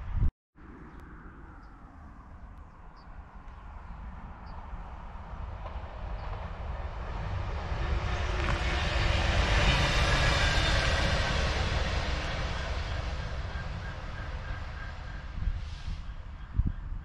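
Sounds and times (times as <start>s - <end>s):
diesel locomotive passing: 1.0s - 17.0s.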